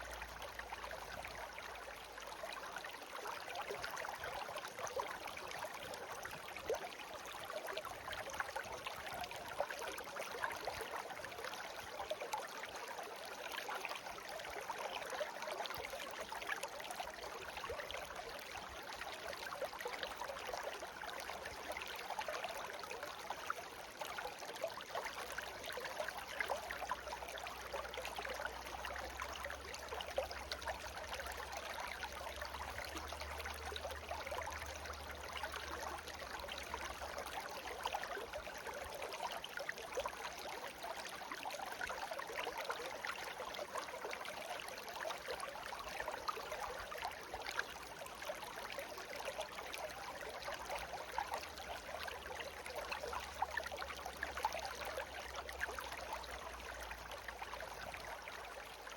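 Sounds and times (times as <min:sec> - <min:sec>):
small stream babbling: 0:00.0 - 0:58.9.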